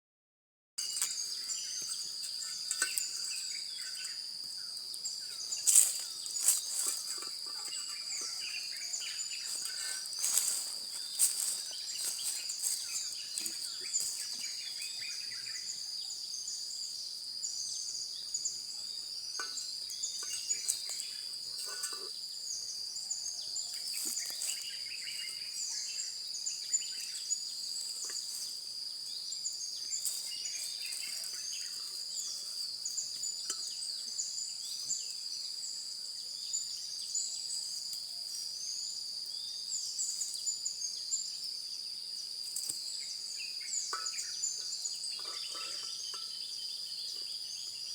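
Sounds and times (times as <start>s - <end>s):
insect chorus trilling: 0.8s - 47.9s.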